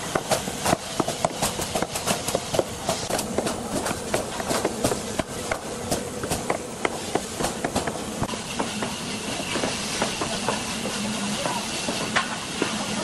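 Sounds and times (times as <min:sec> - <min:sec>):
workshop hiss: 0:00.0 - 0:13.0.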